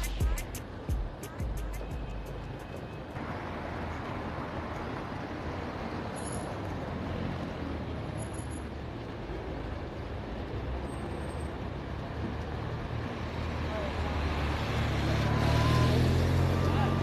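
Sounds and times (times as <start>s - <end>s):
cars driving on a wet road: 0.0s - 17.0s.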